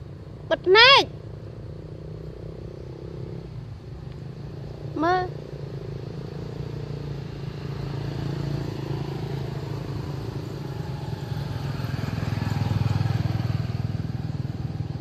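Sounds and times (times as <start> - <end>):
small engine running: 1.1 - 15.0.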